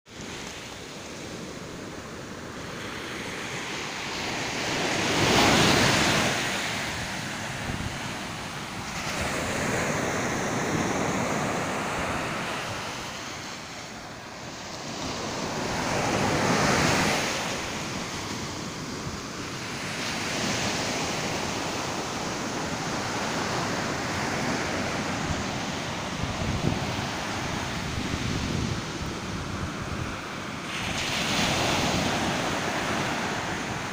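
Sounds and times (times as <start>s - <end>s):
ocean surf breaking: 0.1s - 33.9s
wind buffeting microphone: 1.2s - 14.2s, 14.8s - 33.9s.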